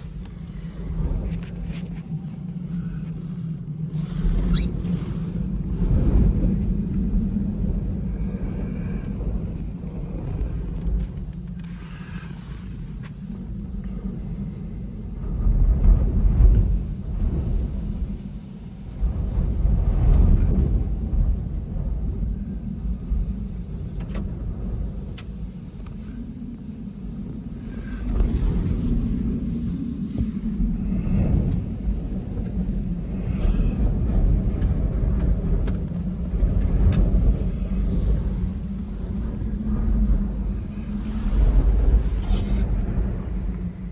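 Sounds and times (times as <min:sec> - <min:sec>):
storm wind gusting: 0:00.0 - 0:43.9.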